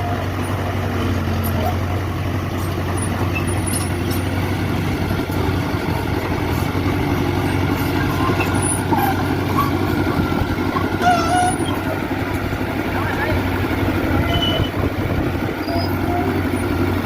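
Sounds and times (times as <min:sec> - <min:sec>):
bulldozer diesel engine humming: 0:00.0 - 0:17.0.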